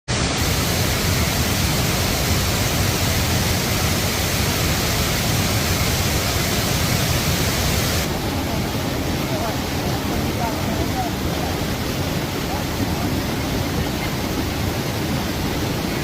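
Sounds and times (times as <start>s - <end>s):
stream rushing over rocks: 0.1s - 16.0s.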